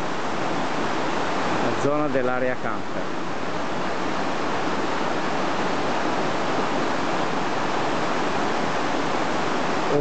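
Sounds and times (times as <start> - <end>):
roar of white-water rapids: 0.0 - 10.0.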